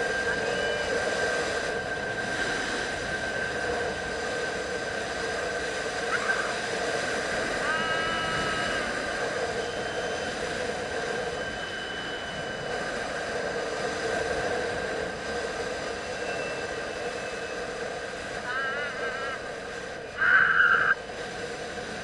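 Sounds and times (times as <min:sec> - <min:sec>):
zip-line pulleys whining: 0:00.0 - 0:21.0
higher pulley whine: 0:00.0 - 0:22.0.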